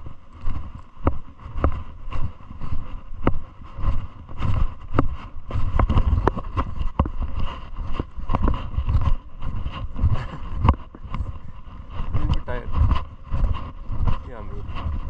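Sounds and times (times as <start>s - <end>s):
footsteps on gravel: 0.0s - 15.0s
wind rumbling on microphone: 0.0s - 15.0s.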